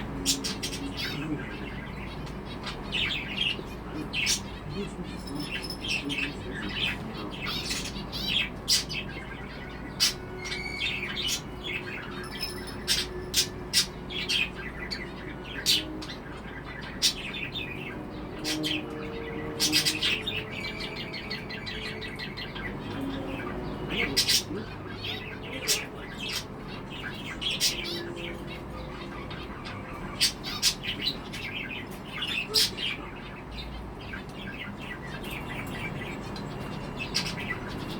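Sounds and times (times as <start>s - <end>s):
budgerigar chirping and warbling: 0.0s - 33.7s.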